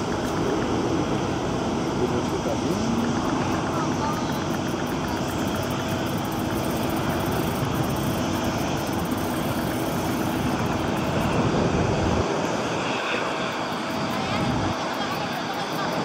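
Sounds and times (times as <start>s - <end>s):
airliner jet engines rumbling: 0.0s - 16.0s.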